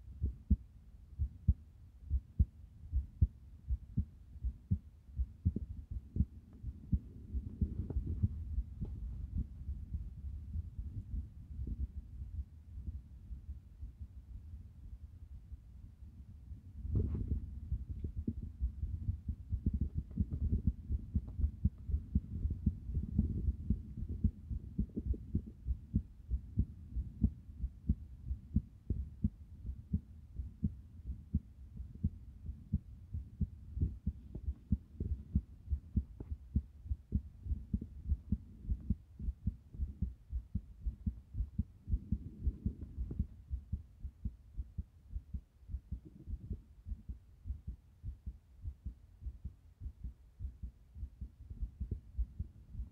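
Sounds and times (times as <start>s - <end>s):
heartbeat thumps: 0.0s - 52.9s.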